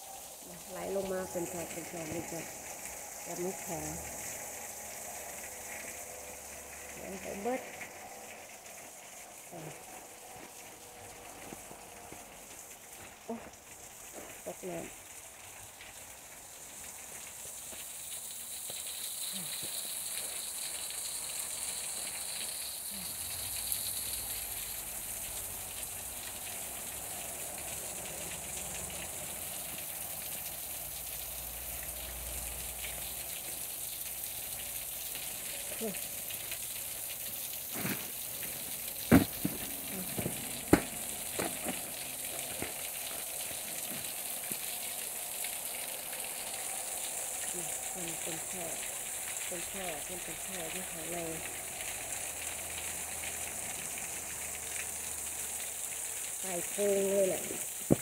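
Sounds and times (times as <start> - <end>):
meltwater trickling down rock: 0.0 - 58.0.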